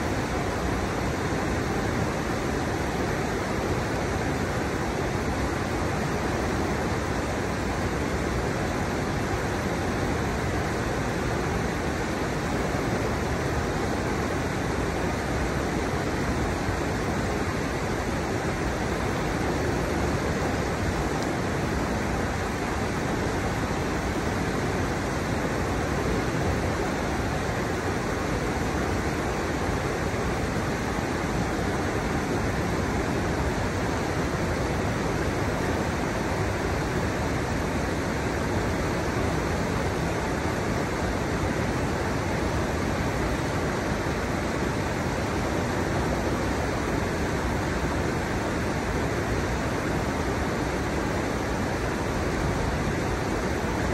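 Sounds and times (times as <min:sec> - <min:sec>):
shallow river rushing over steps: 0:00.0 - 0:53.9.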